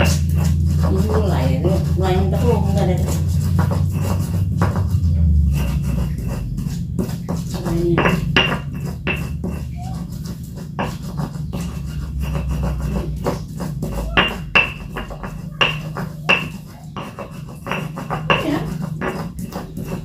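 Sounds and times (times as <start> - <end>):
hands rubbing food in bowl: 0.0 - 20.0
steady low hum: 0.0 - 20.0.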